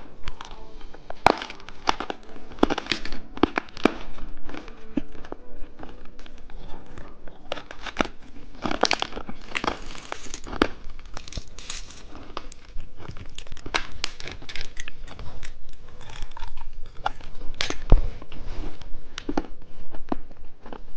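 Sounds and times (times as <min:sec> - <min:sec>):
plastic wrappers crinkling: 0:00.0 - 0:18.2.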